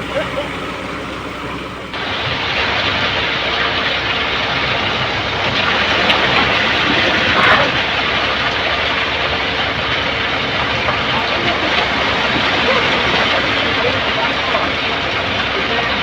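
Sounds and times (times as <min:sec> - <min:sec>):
loud construction machinery: 0:00.0 - 0:16.0.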